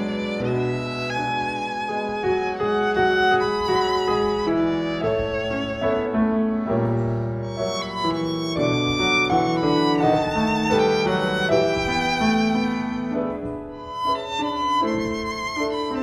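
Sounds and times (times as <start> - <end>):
piano accompaniment: 0.0 - 16.0
violin playing: 0.0 - 16.0.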